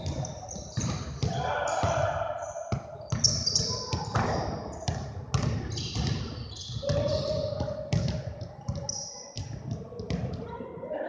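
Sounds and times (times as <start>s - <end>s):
basketballs bouncing on hardwood: 0.0s - 10.5s
sneakers squeaking on floor: 0.0s - 10.5s.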